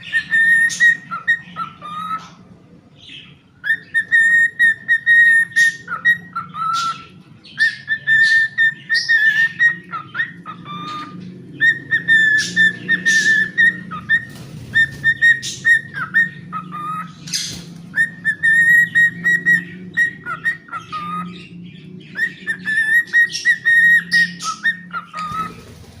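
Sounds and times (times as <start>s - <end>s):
cockatiel whistling: 0.0s - 2.4s, 3.0s - 25.8s
cockatiel scratchy chirps: 3.7s - 21.3s, 22.1s - 26.0s.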